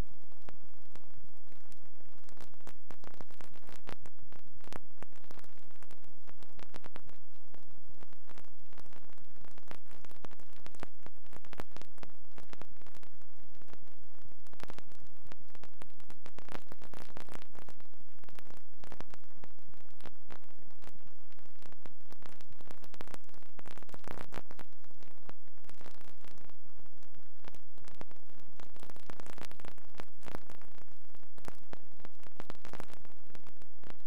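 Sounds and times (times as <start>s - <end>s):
static-like hiss: 0.0s - 34.0s
irregular crackling: 0.2s - 34.0s.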